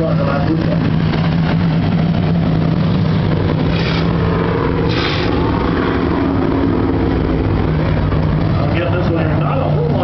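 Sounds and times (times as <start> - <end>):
higher-pitched engine noise: 0.0 - 10.0
race car engines droning: 0.0 - 10.0.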